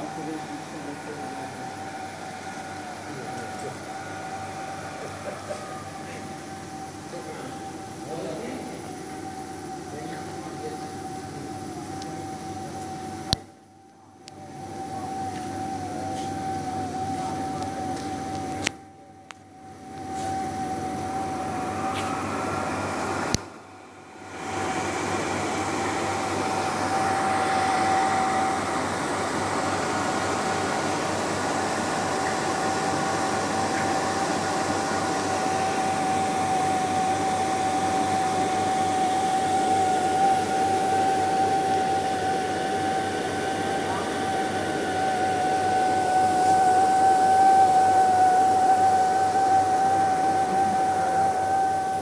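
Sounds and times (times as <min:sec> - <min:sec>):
machinery hum and hiss: 0:00.0 - 0:52.0
steady whining tone: 0:00.0 - 0:52.0.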